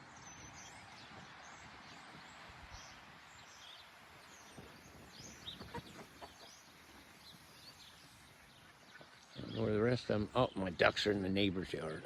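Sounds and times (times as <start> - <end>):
birds chirping faintly: 0.0 - 12.0
steady outdoor hiss: 0.0 - 12.0.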